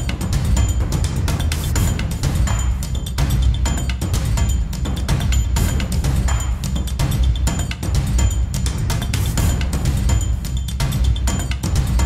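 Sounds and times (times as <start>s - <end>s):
music with heavy drums and bass: 0.0s - 12.0s.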